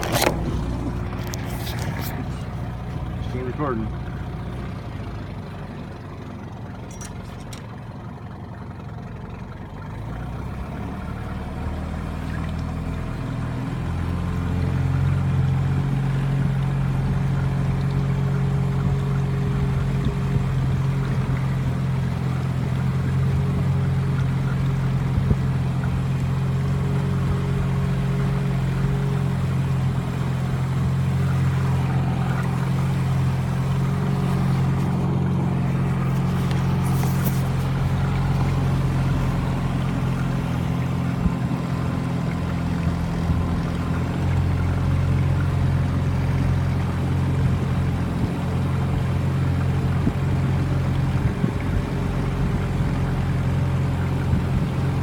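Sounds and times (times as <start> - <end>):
boat outboard motor running: 0.0 - 55.0.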